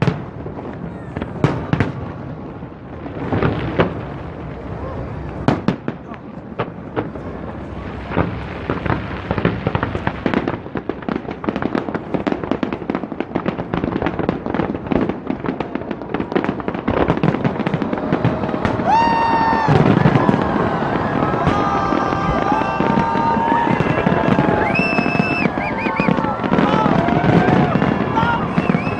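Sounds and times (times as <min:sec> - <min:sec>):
fireworks cracks and bangs: 0:00.0 - 0:28.9.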